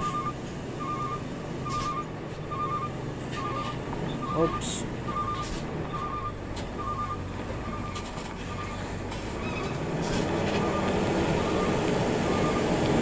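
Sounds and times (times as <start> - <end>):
electronic warning beep: 0.0 - 8.8, 10.6 - 12.8
truck engine rumbling: 0.0 - 13.0.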